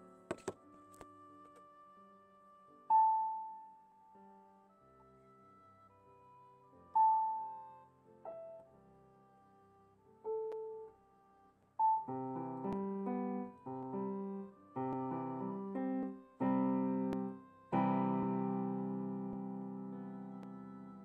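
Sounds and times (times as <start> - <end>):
electronic keyboard piano notes: 0.0 - 9.2, 11.8 - 21.0.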